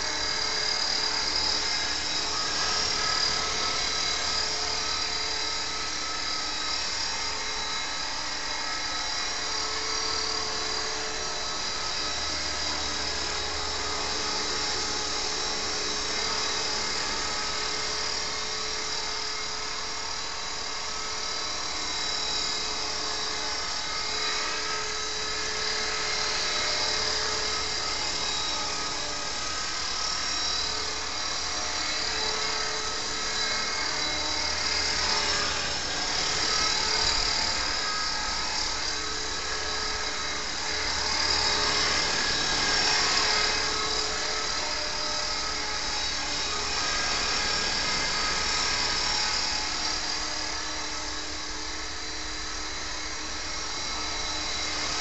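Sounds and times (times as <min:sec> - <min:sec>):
model helicopter whine: 0:00.0 - 0:55.0.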